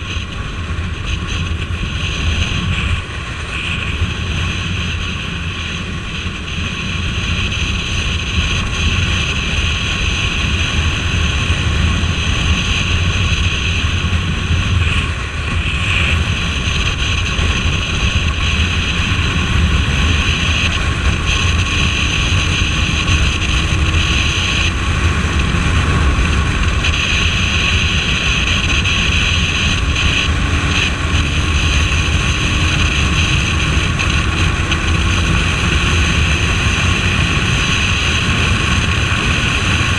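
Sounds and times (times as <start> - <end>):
motorcycle engine and road rumble: 0.0 - 39.9
wind noise on microphone: 0.0 - 39.9.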